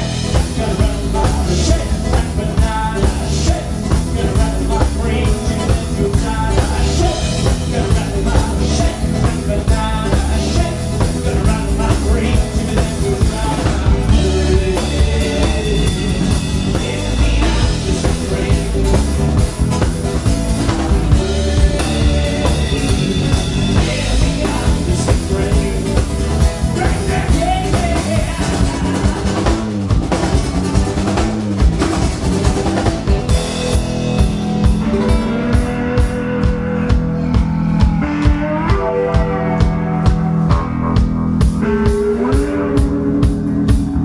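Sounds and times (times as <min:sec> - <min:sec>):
acoustic-electric guitar: 0:00.0 - 0:44.0
bass guitar: 0:00.0 - 0:44.0
drum kit: 0:00.0 - 0:44.0.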